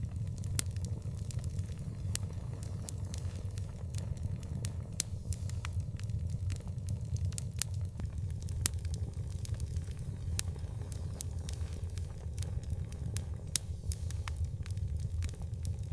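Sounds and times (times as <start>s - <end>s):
low fire rumble: 0.0s - 15.9s
wood fire crackling and popping: 0.0s - 15.9s.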